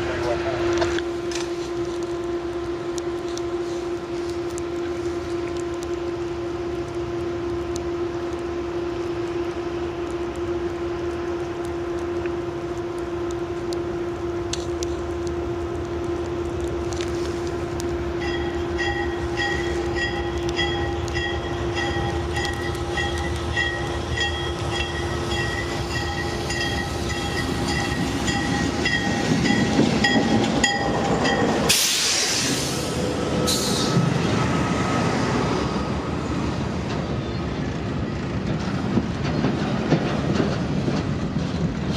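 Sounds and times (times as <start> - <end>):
train low hum: 0.0 - 41.9.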